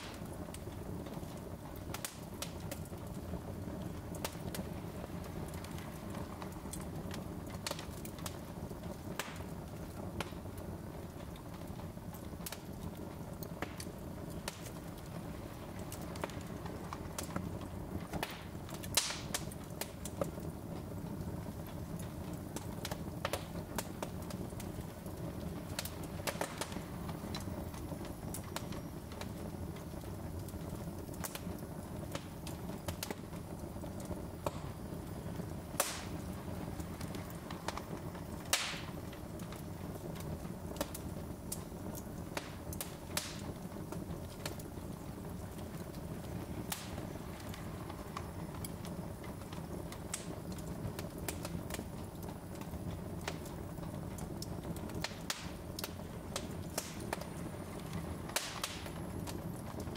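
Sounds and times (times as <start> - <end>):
fire flames rumbling: 0.0 - 59.9
wood crackling and popping: 0.0 - 59.9.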